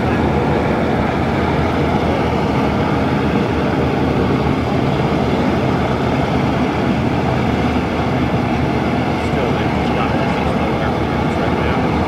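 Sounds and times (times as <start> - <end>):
aircraft engines idling: 0.0 - 12.0.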